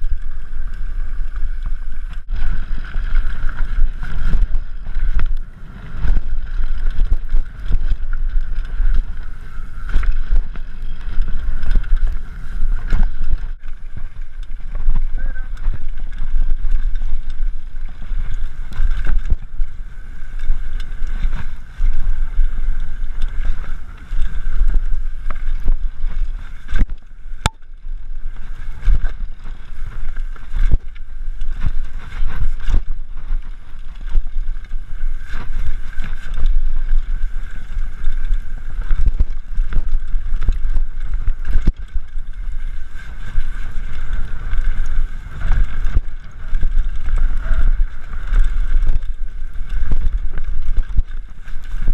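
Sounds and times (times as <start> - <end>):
bike rattles and knocks: 0.0 - 51.9
whirring buzz: 0.0 - 51.9
wind buffeting microphone: 0.0 - 51.9.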